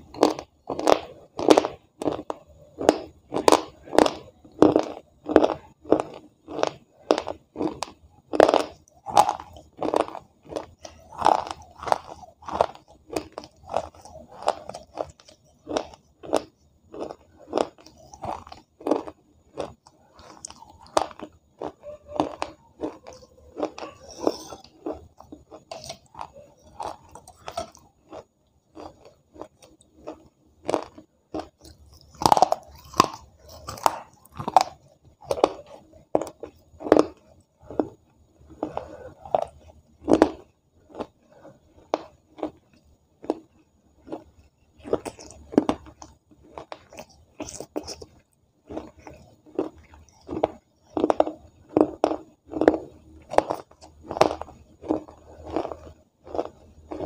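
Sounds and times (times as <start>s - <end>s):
woman crunching clay: 0.0s - 57.0s.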